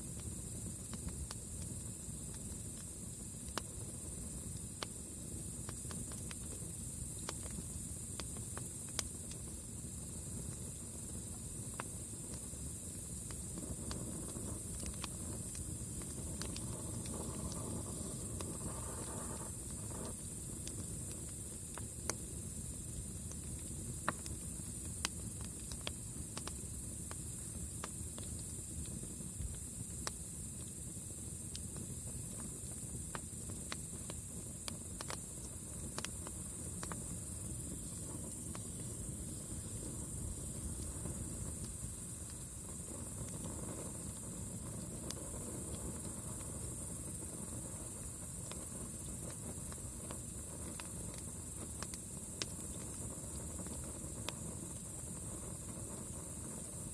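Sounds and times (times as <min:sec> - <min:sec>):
burning wood crackling and popping: 0:00.0 - 0:56.9
campfire flame rushing: 0:00.0 - 0:56.9
steady high hiss: 0:00.0 - 0:56.9.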